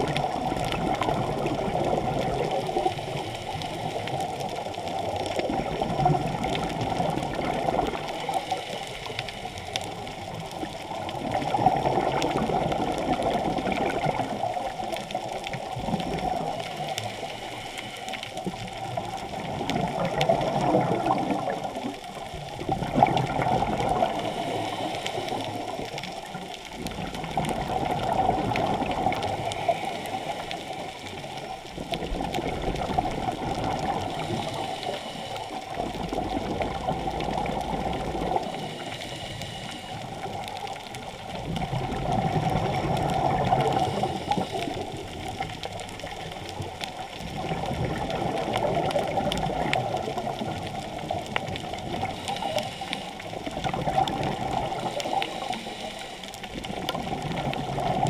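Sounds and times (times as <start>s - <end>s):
underwater diver exhale bubbles: 0.0s - 58.0s.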